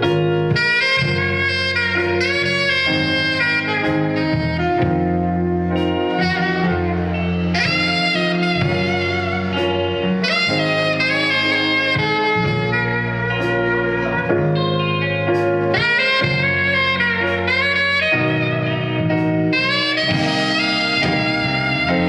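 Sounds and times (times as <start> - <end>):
lead instrument melody with vibrato: 0.0 - 22.0
steady chords and bass: 0.0 - 22.0.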